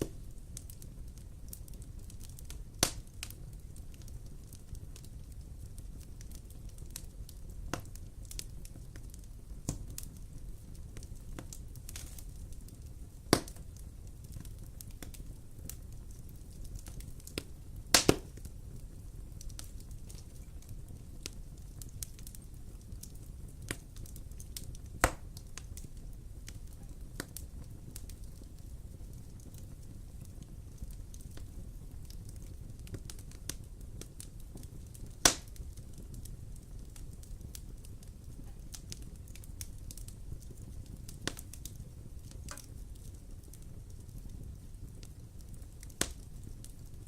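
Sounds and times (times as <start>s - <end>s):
fire crackling and popping: 0.0s - 47.0s
low rumble of wood fire: 0.0s - 47.0s.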